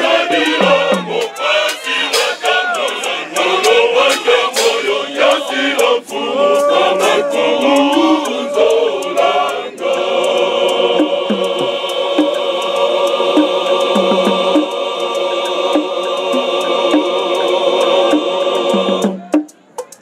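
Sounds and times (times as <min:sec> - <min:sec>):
sharp percussive taps: 0:00.0 - 0:14.8, 0:15.7 - 0:17.5, 0:18.1 - 0:20.0
men's choir singing in harmony: 0:00.0 - 0:19.3.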